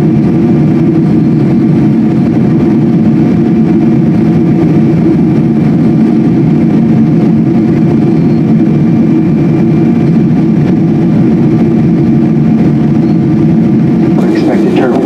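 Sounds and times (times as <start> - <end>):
jet engine and airflow drone: 0.0 - 15.0.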